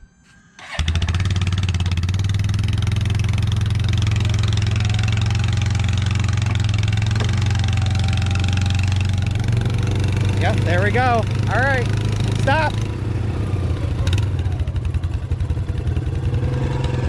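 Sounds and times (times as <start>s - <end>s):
small engine running: 0.6s - 17.0s.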